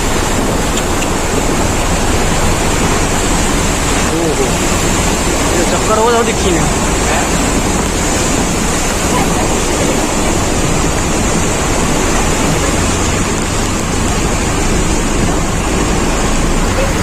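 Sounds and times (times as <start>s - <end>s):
rushing floodwater: 0.0s - 17.0s.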